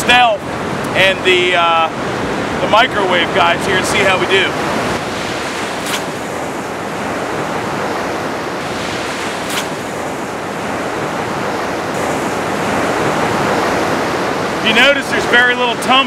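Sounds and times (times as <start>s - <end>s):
ocean surf breaking: 0.0s - 16.0s
wind on microphone: 0.4s - 16.0s.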